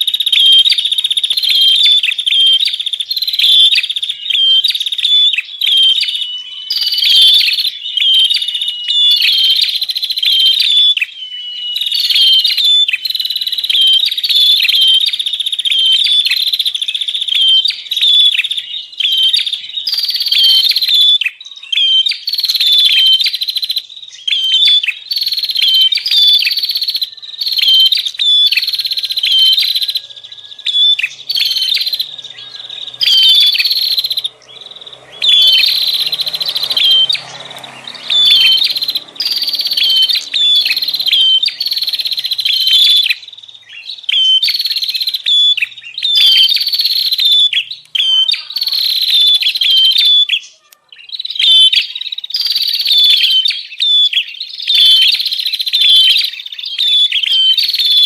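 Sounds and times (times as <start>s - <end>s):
bird calling with buzzy trills: 0.0s - 58.0s.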